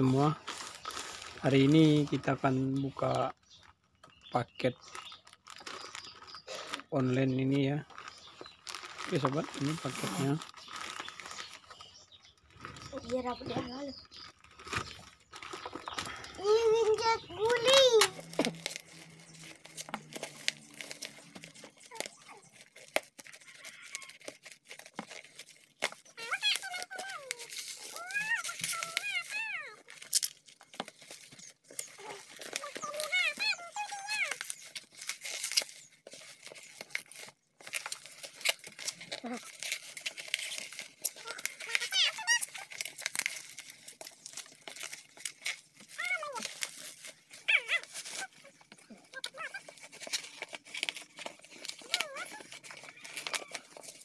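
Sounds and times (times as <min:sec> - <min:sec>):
plastic crinkling and tearing: 0:00.0 - 0:54.0.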